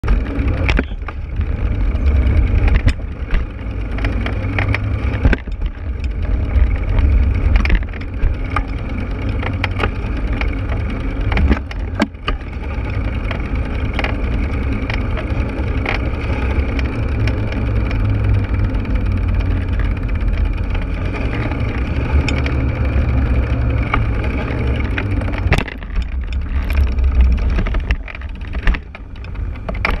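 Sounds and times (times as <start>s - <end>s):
bike knocking and rattling over bumps: 0.0s - 30.0s.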